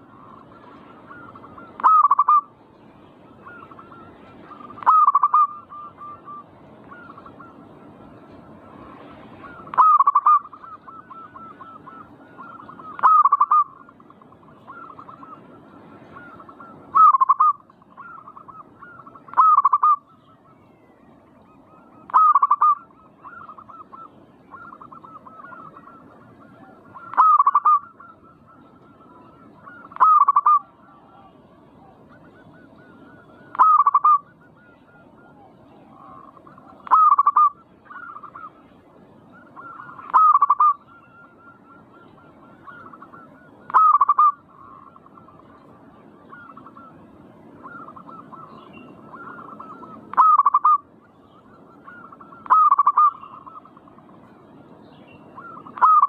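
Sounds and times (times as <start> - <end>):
dove cooing: 0.0 - 2.6, 3.2 - 54.6, 55.2 - 56.0.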